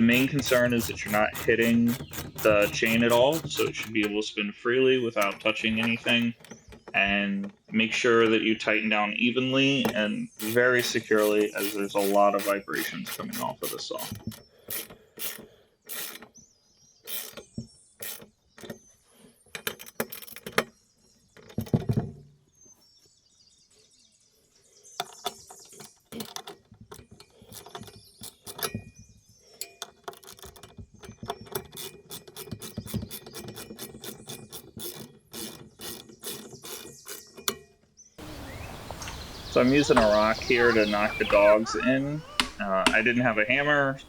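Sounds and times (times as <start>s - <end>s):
bolts being tightened clicking: 0.0s - 4.2s, 5.1s - 8.7s, 9.6s - 16.4s, 17.0s - 18.8s, 19.5s - 20.7s, 25.0s - 29.0s, 29.6s - 44.0s.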